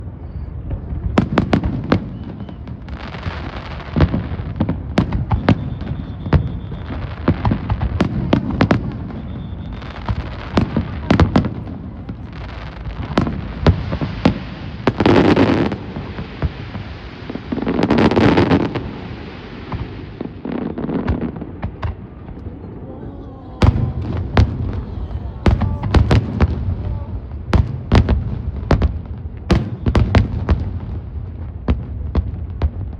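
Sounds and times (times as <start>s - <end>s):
fireworks crackling hiss: 0.0s - 32.9s
fireworks rushing bursts: 0.0s - 32.9s
fireworks sharp bangs: 0.6s - 22.8s, 23.6s - 32.9s.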